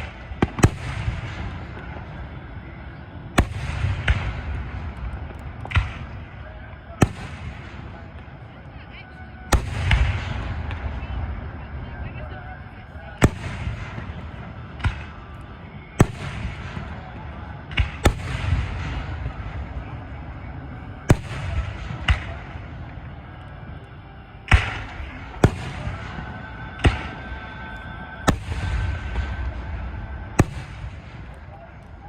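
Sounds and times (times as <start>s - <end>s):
fireworks banging: 0.0s - 8.5s, 13.2s - 32.0s
rumble and crackle: 0.0s - 32.0s.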